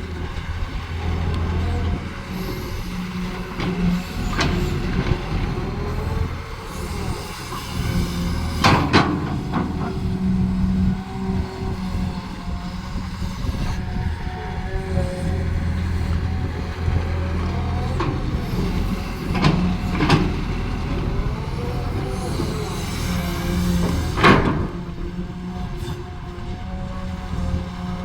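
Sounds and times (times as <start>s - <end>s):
excavator diesel engine: 0.0s - 28.0s.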